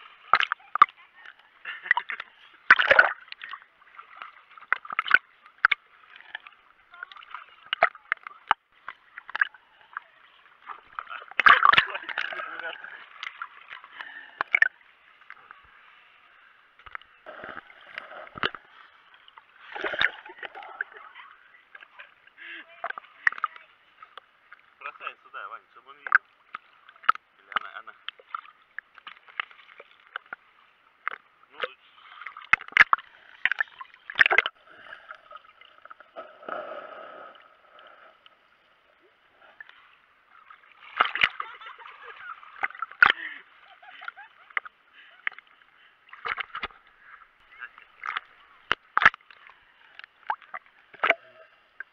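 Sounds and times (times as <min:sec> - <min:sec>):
muffled water sloshing: 0:00.0 - 0:51.9.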